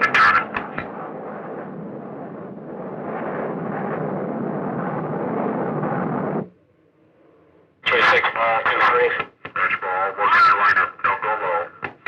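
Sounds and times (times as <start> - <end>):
aircraft engine rushing: 0.0 - 11.7.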